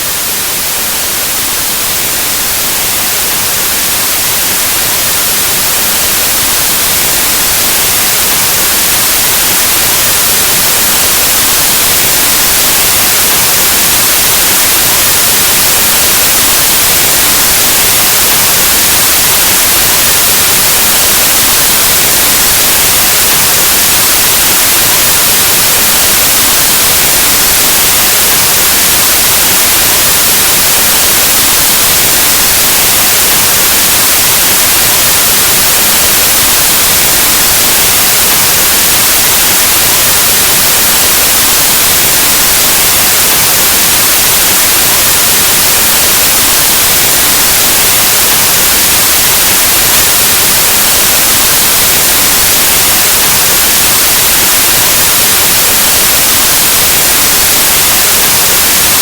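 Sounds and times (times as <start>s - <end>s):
static white noise hiss: 0.0s - 59.0s.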